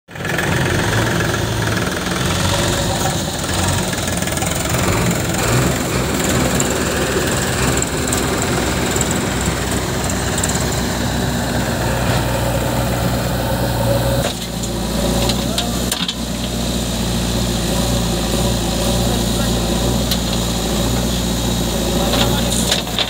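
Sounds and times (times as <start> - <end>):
backhoe loader engine running: 0.1 - 23.0
tractor diesel engine running: 0.1 - 23.0.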